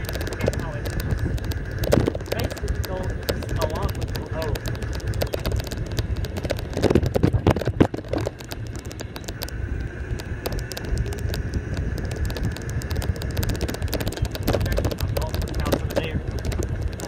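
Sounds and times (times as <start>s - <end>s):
faint steady whine: 0.0s - 17.0s
golf cart body rattling: 0.0s - 17.0s
wind rumble on microphone: 0.0s - 17.0s.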